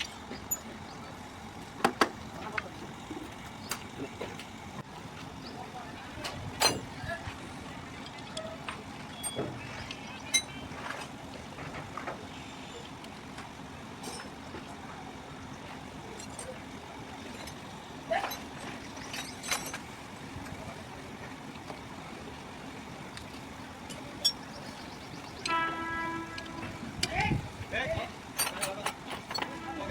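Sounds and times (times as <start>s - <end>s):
traffic hum: 0.0s - 29.9s.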